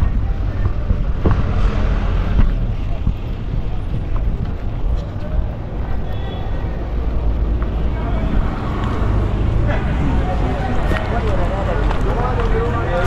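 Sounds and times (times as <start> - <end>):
passersby voices: 0.0 - 13.0
traffic rumble: 0.0 - 13.0.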